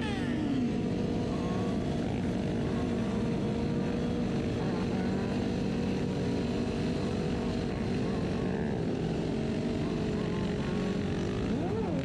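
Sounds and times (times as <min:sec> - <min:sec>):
motorcycle engines droning: 0:00.0 - 0:12.0.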